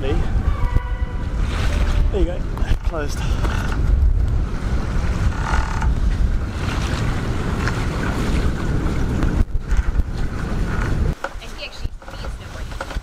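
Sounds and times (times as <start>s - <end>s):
rush of wind and water: 0.0s - 13.0s
wind buffeting microphone: 0.0s - 13.0s.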